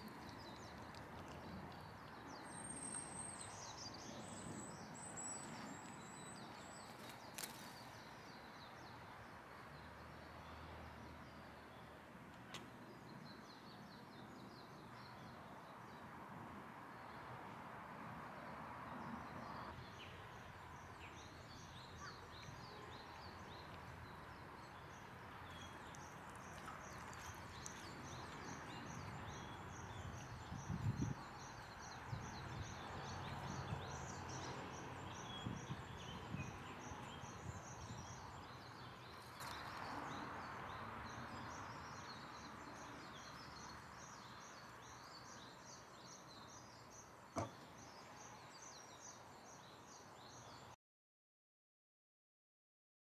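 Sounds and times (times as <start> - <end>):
small birds chirping: 0.0 - 16.1, 18.9 - 50.8
quiet outdoor background noise: 0.0 - 50.8.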